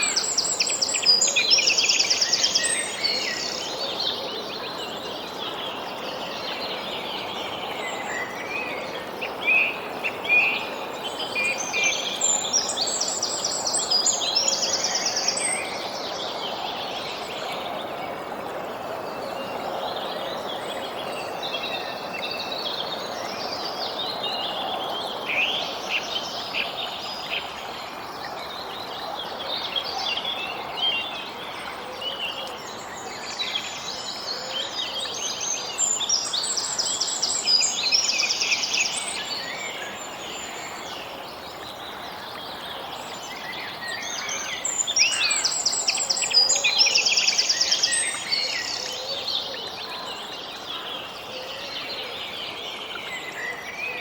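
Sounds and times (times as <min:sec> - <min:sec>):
songbirds chirping and trilling: 0:00.0 - 0:54.0
steady background hiss: 0:00.0 - 0:54.0.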